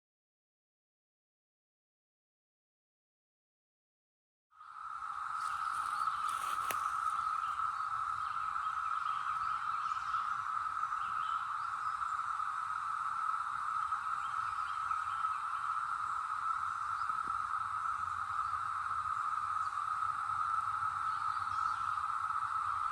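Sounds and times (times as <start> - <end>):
cicadas droning chorus: 4.5 - 22.9.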